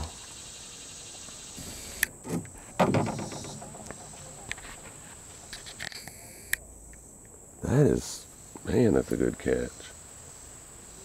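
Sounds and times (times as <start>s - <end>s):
insects singing: 0.0s - 11.0s.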